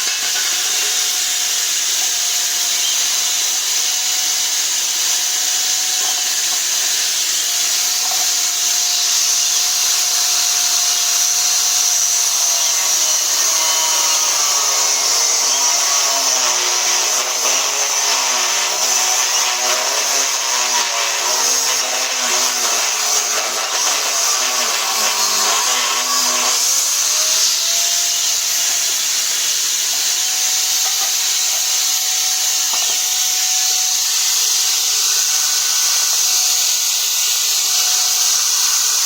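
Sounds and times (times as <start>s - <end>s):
power tool motor running: 0.0s - 39.0s.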